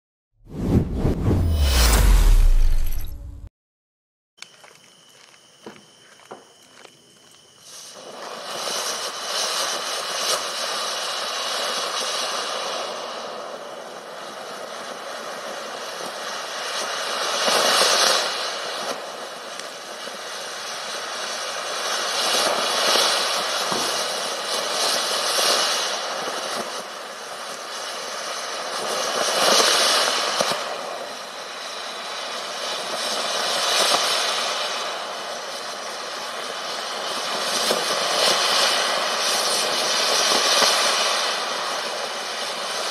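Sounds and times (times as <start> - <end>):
firework fountain hissing: 7.0 - 42.9.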